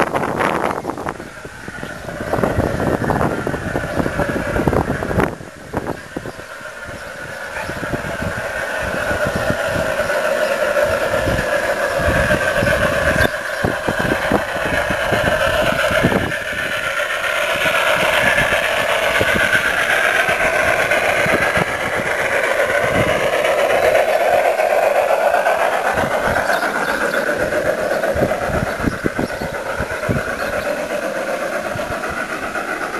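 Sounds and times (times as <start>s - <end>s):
model train rumbling on track: 0.0s - 32.9s
wind buffeting microphone: 0.0s - 32.9s.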